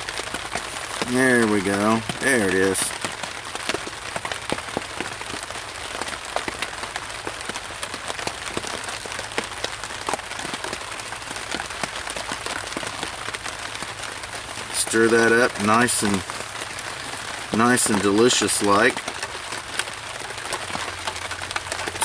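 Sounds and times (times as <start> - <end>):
rain hiss on tent: 0.0 - 22.0
raindrop taps: 0.0 - 22.0.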